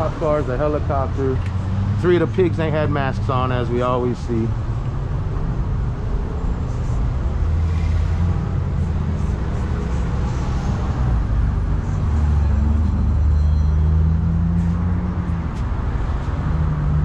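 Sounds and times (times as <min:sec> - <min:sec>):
engines droning: 0:00.0 - 0:17.0
street noise: 0:00.0 - 0:17.0.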